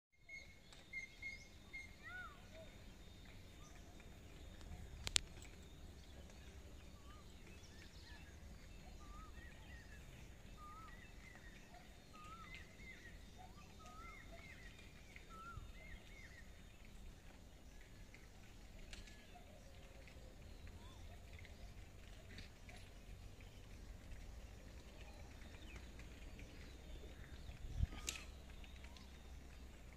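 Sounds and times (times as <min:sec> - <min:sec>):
faint birds chirping: 0:00.3 - 0:29.9
low outdoor rumble: 0:01.9 - 0:29.9.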